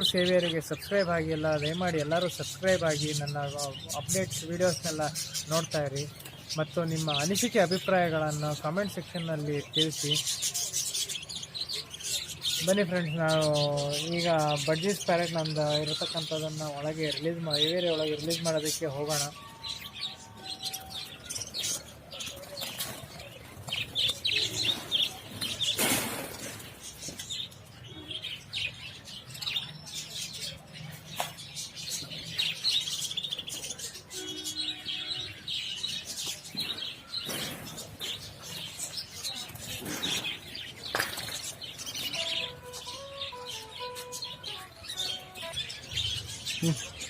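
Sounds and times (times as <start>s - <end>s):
budgerigars chirping: 0.0s - 47.0s.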